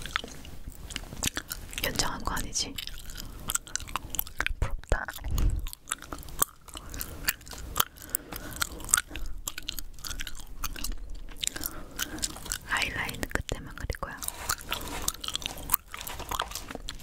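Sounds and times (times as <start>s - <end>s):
gum chewing mouth smacks: 0.0s - 17.0s.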